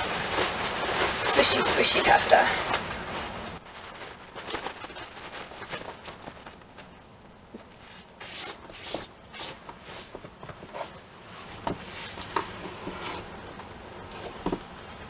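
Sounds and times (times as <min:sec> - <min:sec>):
taffeta skirt rustling: 0:00.0 - 0:14.4.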